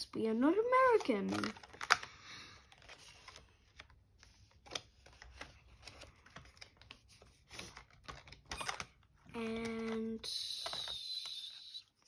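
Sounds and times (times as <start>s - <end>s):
banknote and plastic envelope rustling: 0.4s - 12.0s.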